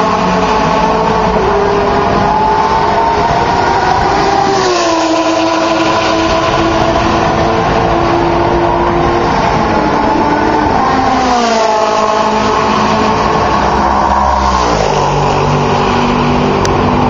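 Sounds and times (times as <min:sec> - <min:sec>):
race cars passing at full throttle: 0:00.0 - 0:17.0.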